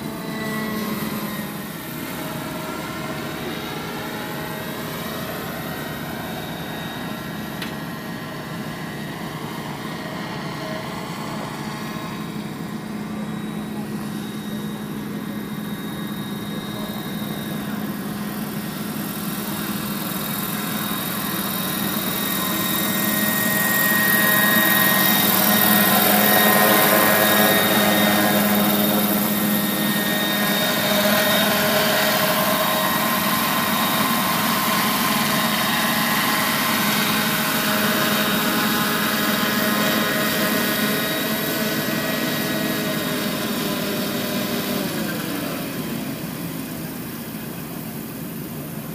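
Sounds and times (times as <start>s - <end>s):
model helicopter whine: 0.0s - 48.9s.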